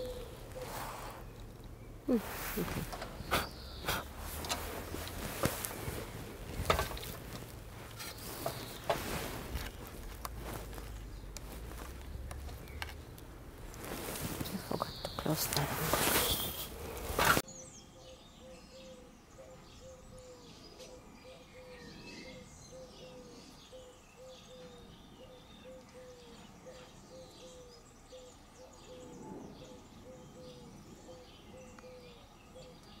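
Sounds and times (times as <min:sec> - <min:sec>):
garden birds chirping: 0:00.0 - 0:33.0.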